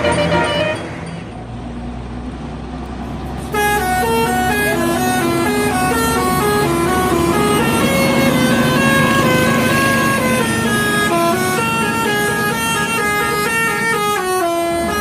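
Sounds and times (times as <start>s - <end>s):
musical air horn melody: 0.0s - 0.9s, 3.4s - 15.0s
bus engine running: 0.0s - 15.0s.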